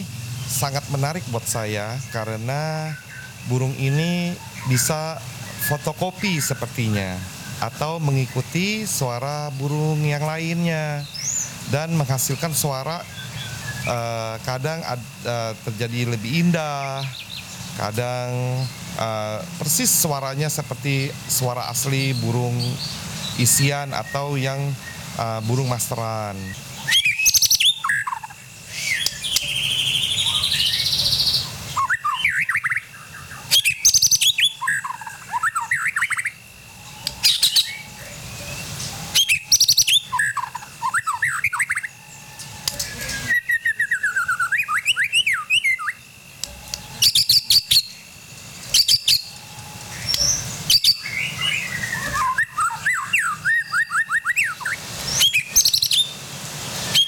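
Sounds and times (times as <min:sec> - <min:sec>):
bird singing: 0:00.0 - 0:56.2, 0:56.8 - 0:57.0.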